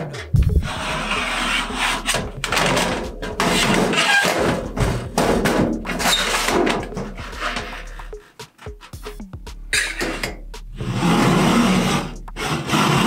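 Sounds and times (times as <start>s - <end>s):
metal scraping on copper: 0.0s - 8.3s, 9.7s - 13.0s.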